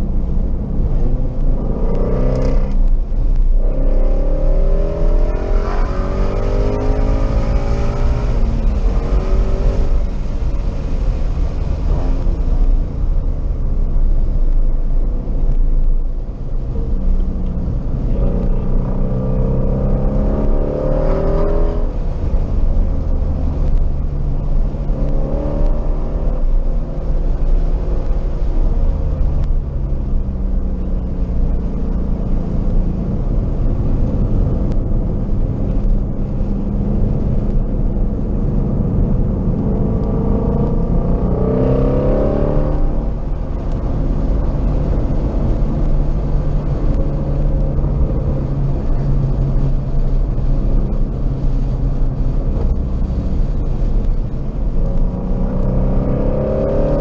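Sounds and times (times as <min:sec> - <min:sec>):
car engine under hard driving: 0:00.0 - 0:57.0
road and wind noise: 0:00.0 - 0:57.0.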